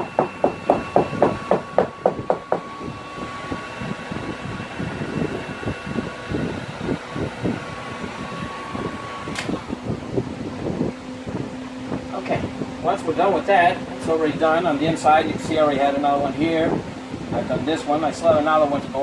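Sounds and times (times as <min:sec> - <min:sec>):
steady whirring with high whine: 0:00.0 - 0:19.0.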